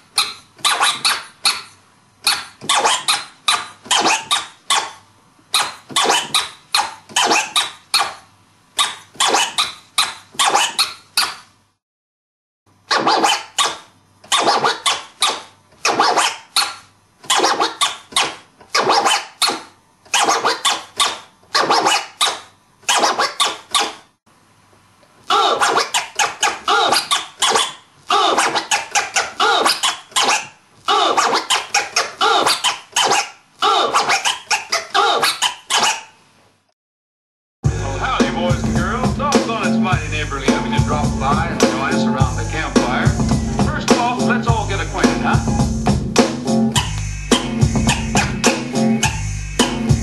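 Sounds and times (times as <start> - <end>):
vinyl record scratching: 0.0 - 1.4, 2.3 - 4.9, 5.6 - 8.2, 8.8 - 10.8, 12.9 - 16.7, 17.3 - 22.3, 22.9 - 23.9, 25.3 - 36.1, 37.6 - 50.0.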